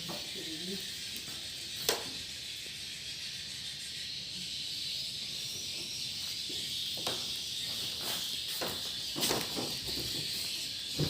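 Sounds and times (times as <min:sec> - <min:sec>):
swiftlets twittering: 0:00.0 - 0:11.0.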